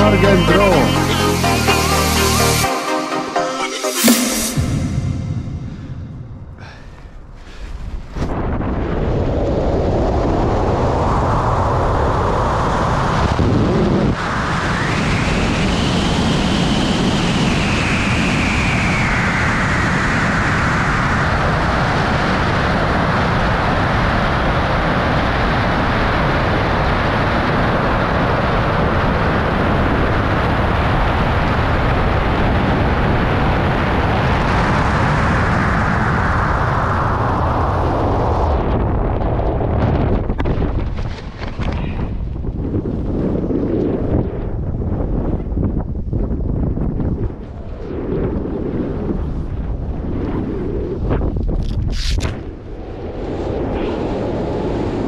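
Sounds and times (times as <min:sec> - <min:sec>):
rushing wind: 0:04.1 - 0:55.0.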